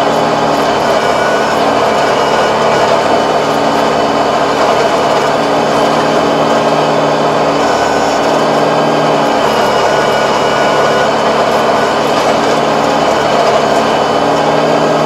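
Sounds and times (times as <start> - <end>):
rotary tiller churning soil: 0.0 - 15.0
tractor diesel engine running: 0.0 - 15.0.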